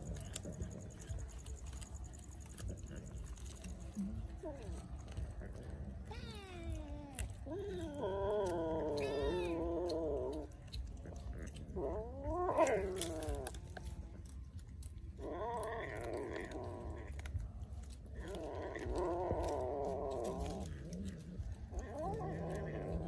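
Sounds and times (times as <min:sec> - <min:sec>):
cats meowing: 0:00.0 - 0:23.0.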